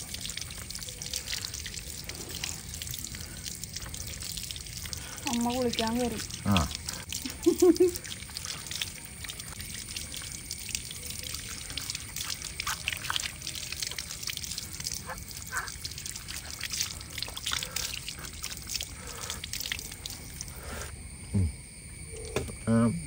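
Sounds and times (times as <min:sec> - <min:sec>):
water trickling and dripping: 0:00.0 - 0:20.9.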